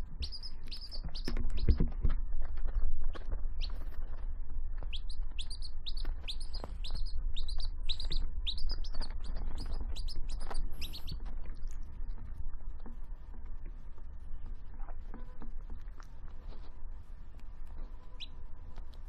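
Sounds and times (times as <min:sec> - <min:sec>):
chick peeping: 0:00.0 - 0:04.2, 0:04.8 - 0:13.0, 0:14.4 - 0:19.0
steady low rumble: 0:00.0 - 0:19.0.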